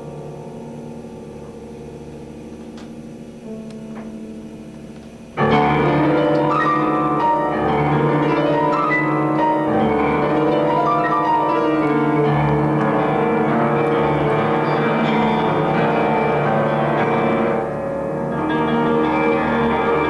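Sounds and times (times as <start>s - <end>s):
piano-led music: 0.0s - 20.0s.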